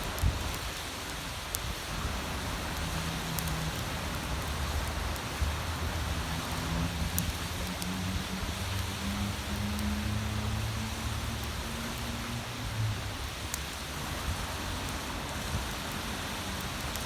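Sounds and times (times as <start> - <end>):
bonfire hissing: 0.0 - 17.0
burning wood crackling: 0.0 - 17.0.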